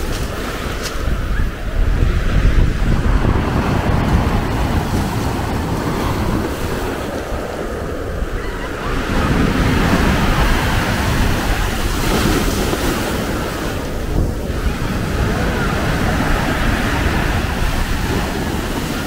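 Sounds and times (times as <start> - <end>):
sea waves breaking on shore: 0.0 - 19.0
wind rumbling on microphone: 0.0 - 19.0.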